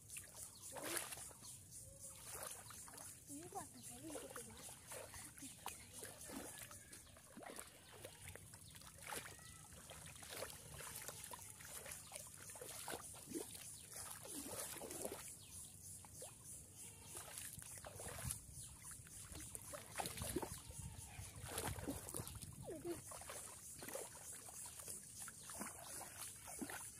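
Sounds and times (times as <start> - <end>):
fish splashing in shallow water: 0.0 - 26.9.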